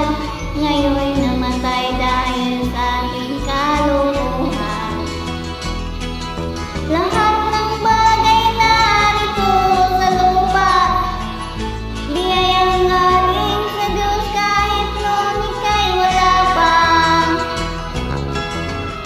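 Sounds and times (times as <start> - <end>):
person singing karaoke: 0.0 - 6.2, 6.8 - 19.0
backing track music: 0.0 - 19.0.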